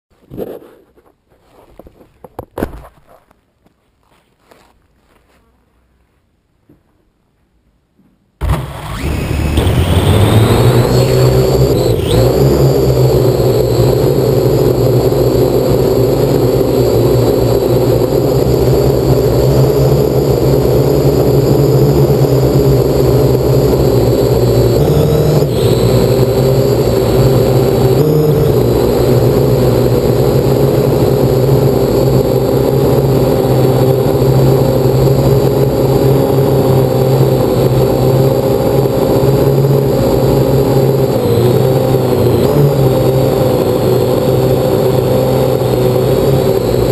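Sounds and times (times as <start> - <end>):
drone motors and propellers: 8.4 - 46.9.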